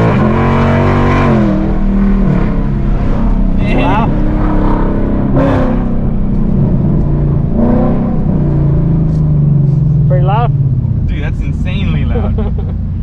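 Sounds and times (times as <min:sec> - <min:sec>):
car exhaust idling: 0:00.0 - 0:13.0.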